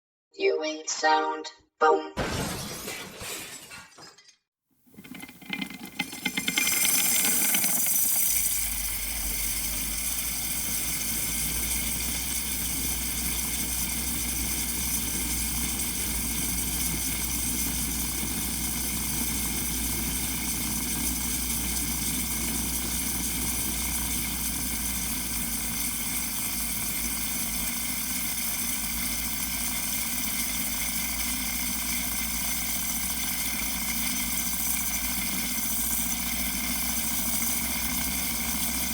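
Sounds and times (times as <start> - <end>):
steam wand frothing milk: 5.0 - 38.9.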